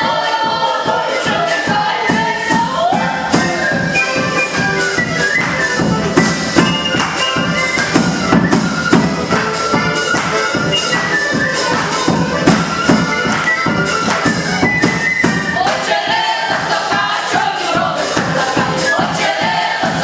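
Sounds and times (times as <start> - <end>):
percussive beat: 0.0 - 20.0
wind instrument melody: 0.0 - 20.0.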